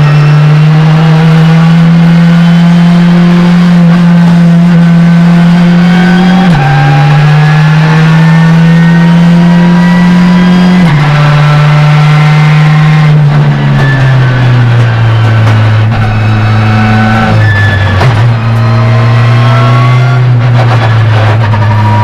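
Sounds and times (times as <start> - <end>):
engine pitch dropping at upshifts: 0.0 - 22.0
race car engine accelerating: 0.0 - 22.0.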